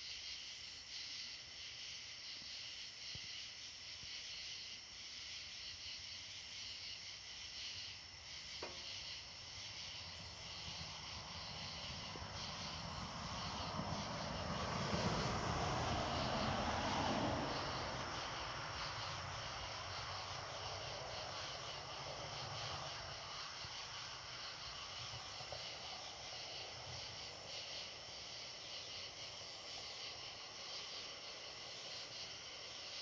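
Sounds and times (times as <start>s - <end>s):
crickets trilling: 0.0s - 33.0s.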